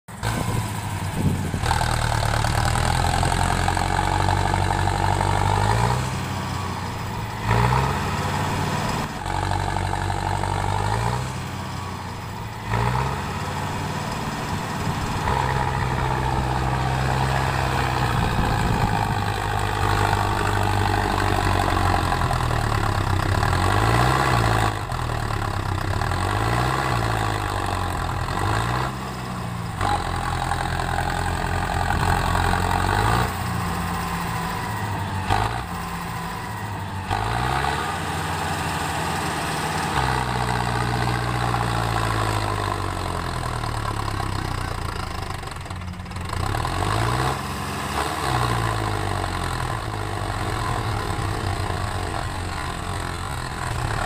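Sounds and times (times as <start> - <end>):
tractor diesel engine straining: 0.1 - 54.0.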